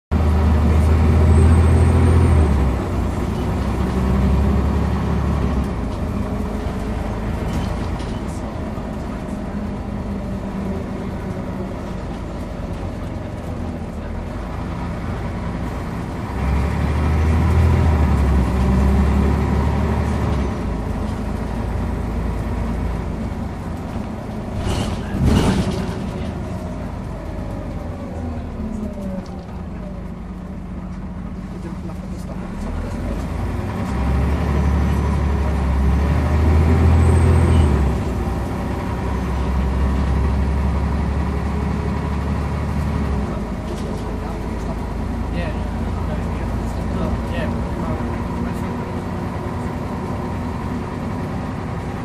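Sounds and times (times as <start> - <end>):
bus engine pulling: 0.1 - 52.0
road noise: 0.1 - 52.0.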